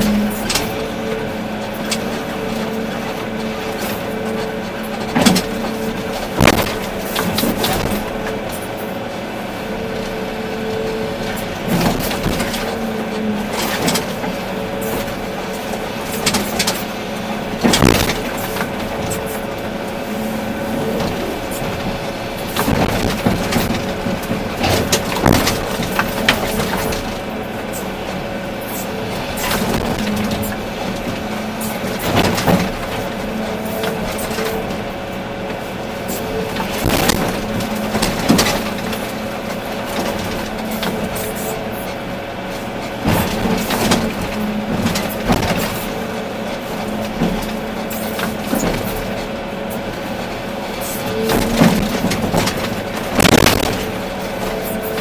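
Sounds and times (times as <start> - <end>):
excavator engine and hydraulics humming: 0.0 - 55.0.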